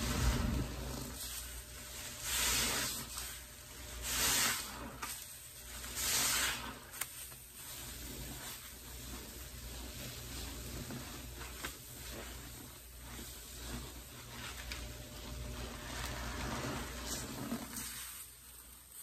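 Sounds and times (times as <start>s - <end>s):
sponge squelching in water: 0.0s - 19.0s.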